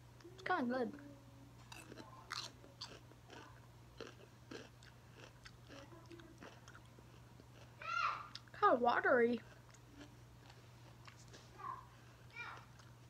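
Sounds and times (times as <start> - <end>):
chewing with crisp crunches: 1.6 - 8.6, 9.4 - 13.0.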